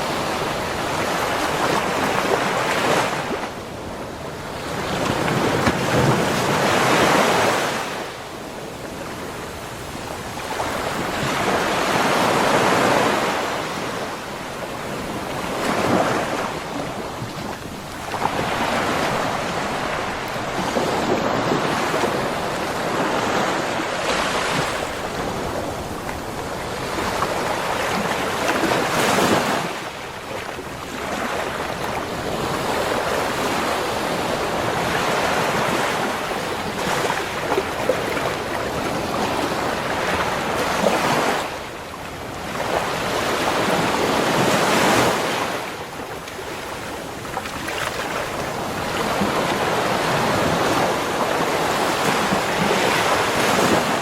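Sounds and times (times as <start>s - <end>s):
ocean waves breaking: 0.0s - 54.0s
wind on microphone: 0.0s - 54.0s.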